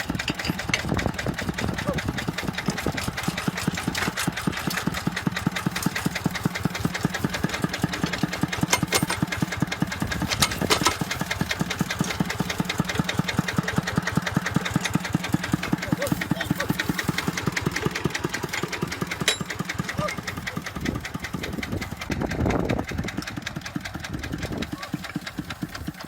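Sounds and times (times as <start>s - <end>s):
tractor diesel engine chugging: 0.0s - 26.0s.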